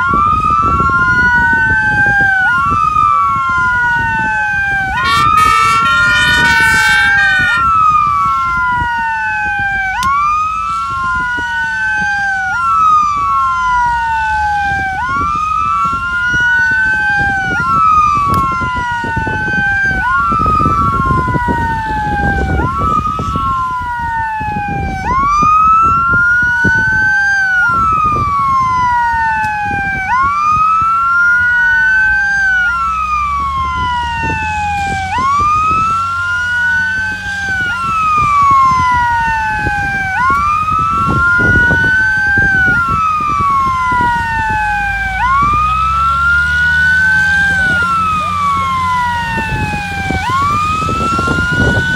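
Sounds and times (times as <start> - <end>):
emergency vehicle siren wailing: 0.0 - 51.9.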